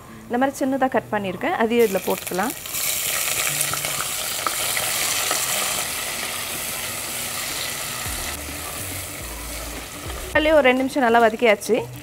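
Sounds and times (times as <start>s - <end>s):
onion and tomato sizzling in oil: 1.7s - 12.0s.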